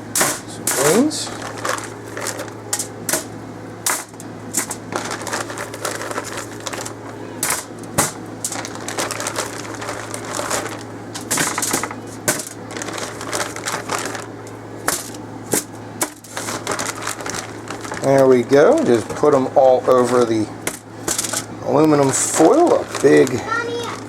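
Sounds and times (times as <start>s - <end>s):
steady low hum: 0.0s - 24.0s
crinkling plastic and foil: 0.8s - 3.0s, 3.9s - 24.0s.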